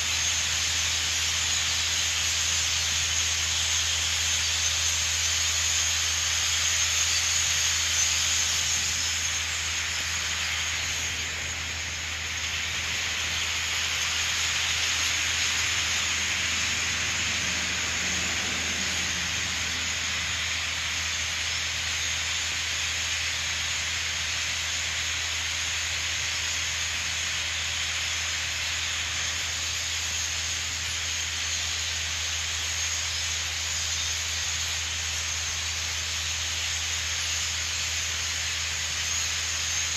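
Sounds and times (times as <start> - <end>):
flock of starlings chattering: 0.0 - 39.9.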